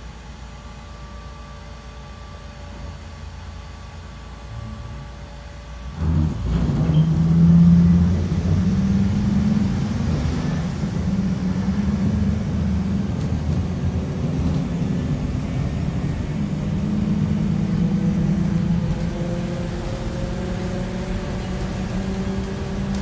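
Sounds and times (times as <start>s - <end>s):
bus engine: 0.0s - 23.0s.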